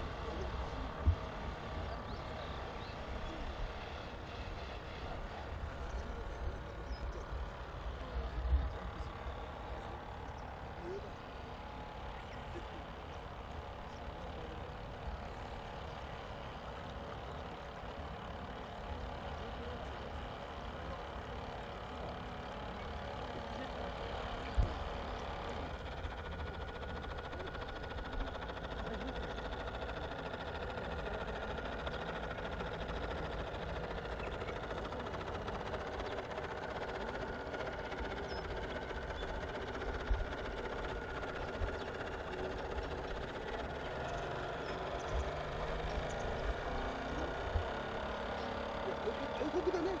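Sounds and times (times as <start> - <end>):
small electric motor whine: 0.0 - 50.0.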